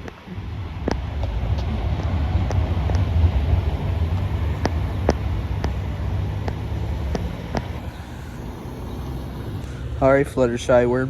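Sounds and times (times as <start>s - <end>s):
tram passing with low rumble: 0.0s - 11.0s
sharp metallic clicks: 0.9s - 10.0s.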